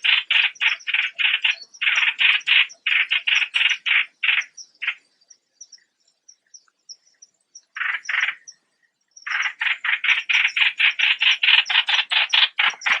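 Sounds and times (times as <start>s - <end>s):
faint high chirps: 0.0s - 13.0s.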